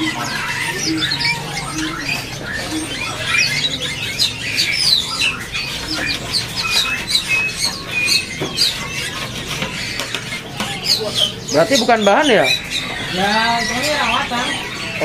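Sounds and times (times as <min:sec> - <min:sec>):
songbirds chirping and singing: 0:00.0 - 0:15.0.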